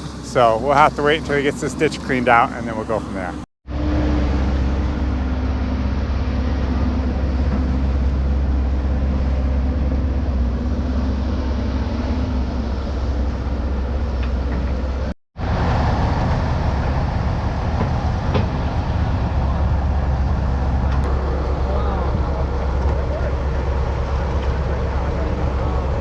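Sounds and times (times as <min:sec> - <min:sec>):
excavator engine rumbling: 0:00.0 - 0:26.0.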